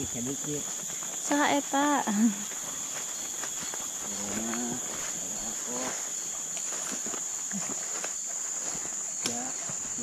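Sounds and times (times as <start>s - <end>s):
shrill insect chorus: 0.0s - 10.0s.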